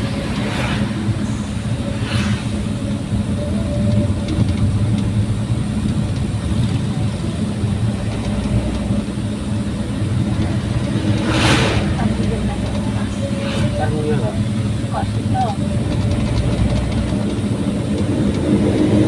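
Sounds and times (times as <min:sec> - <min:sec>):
pickup engine low drone: 0:00.0 - 0:19.0.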